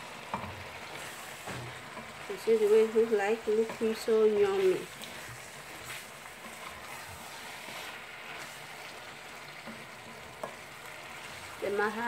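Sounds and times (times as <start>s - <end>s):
stew sizzling in a pot: 0.0s - 12.0s.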